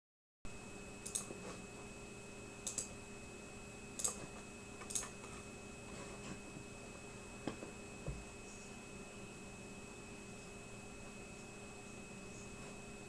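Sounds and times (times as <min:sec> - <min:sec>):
steady electrical hum: 0:00.5 - 0:13.0.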